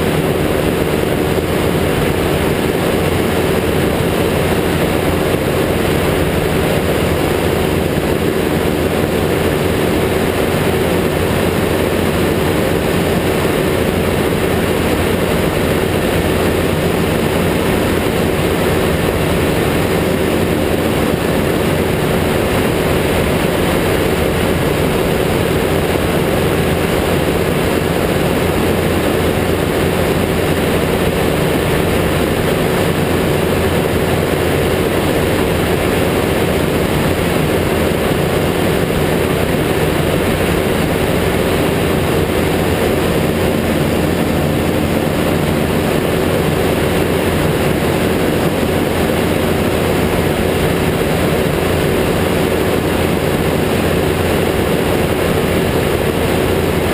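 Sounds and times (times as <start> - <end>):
propeller engine drone: 0.0 - 56.9
rushing air: 0.0 - 56.9.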